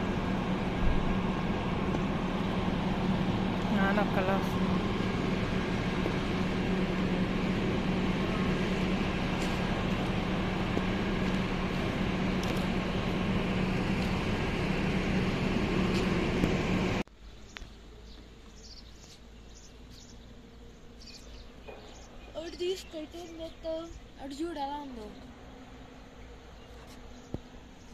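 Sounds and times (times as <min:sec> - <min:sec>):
moving vehicle interior hum: 0:00.0 - 0:27.9.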